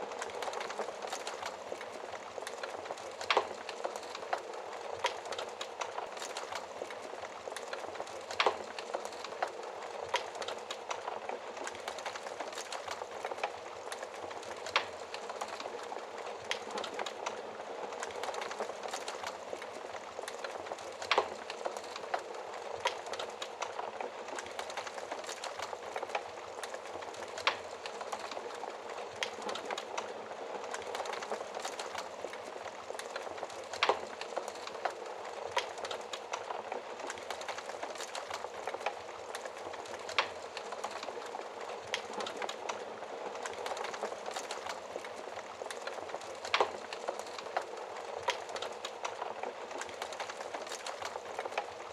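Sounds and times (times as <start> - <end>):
fire popping: 0.0 - 51.9
wood fire hissing and crackling: 0.0 - 51.9.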